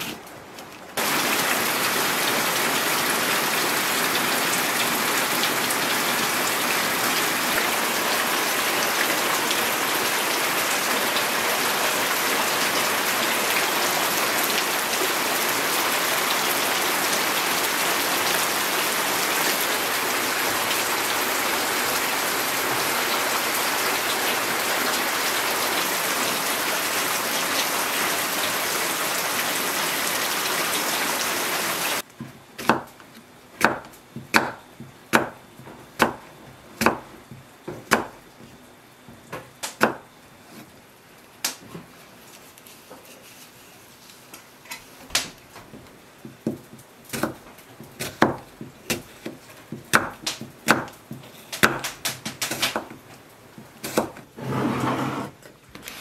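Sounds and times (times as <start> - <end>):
steady rain falling: 0.0 - 32.1, 40.8 - 55.3.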